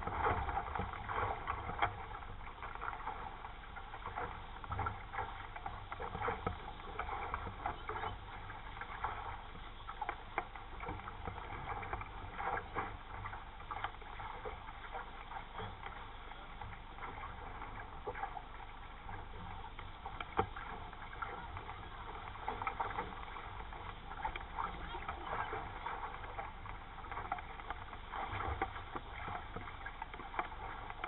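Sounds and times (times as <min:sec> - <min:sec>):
water slapping against boat hull: 0:00.0 - 0:31.0
wind rumble on microphone: 0:00.0 - 0:31.0.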